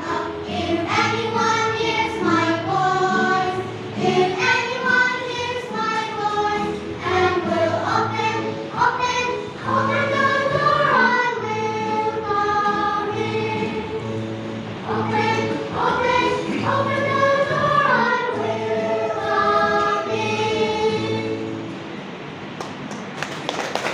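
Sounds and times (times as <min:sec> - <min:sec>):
children's choir singing gospel: 0:00.0 - 0:22.5.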